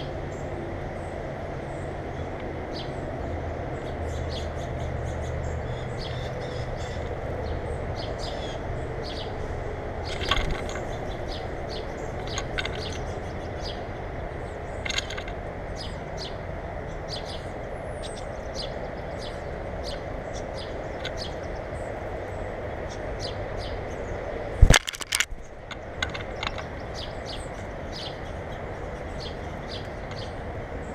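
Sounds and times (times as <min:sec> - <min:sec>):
small birds chirping: 0:00.0 - 0:30.9
steady background hum: 0:00.0 - 0:30.9.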